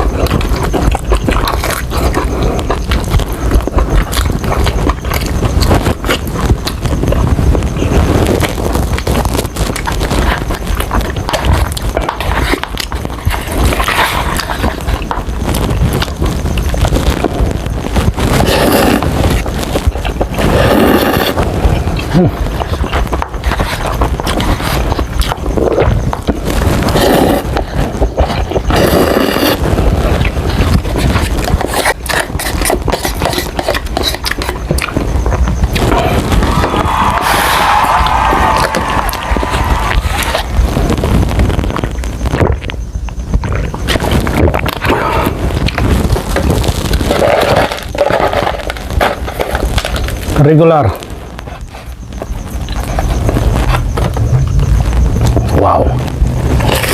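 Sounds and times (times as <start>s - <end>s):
wet mouth sounds: 0.0s - 50.4s
chewing crunchy fried chicken: 0.0s - 56.9s.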